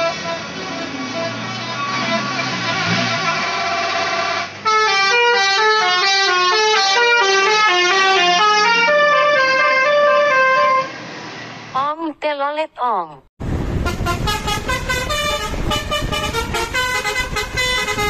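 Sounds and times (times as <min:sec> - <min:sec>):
multi-tone bus air horn tune: 0:00.0 - 0:11.1, 0:13.8 - 0:18.0.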